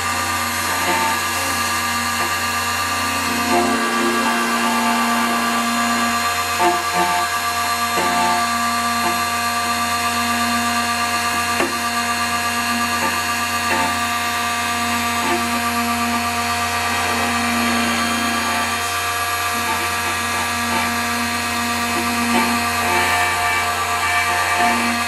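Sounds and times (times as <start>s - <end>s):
key cutting machine humming: 0.0s - 25.0s.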